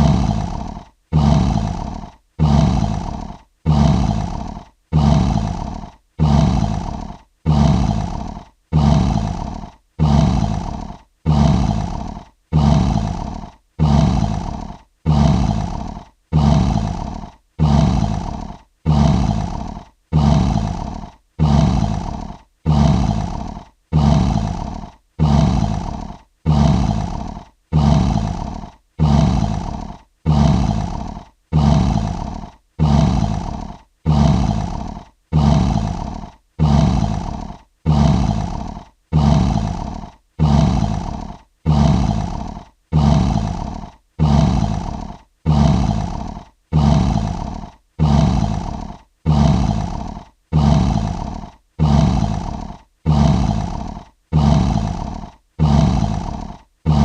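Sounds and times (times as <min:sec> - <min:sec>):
lion roaring: 0:00.0 - 0:57.0.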